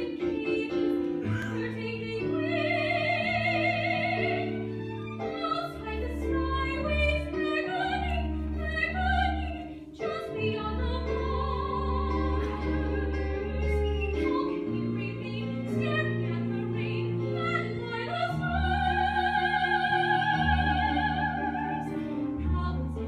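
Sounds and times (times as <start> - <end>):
soprano singing opera: 0.0 - 23.0.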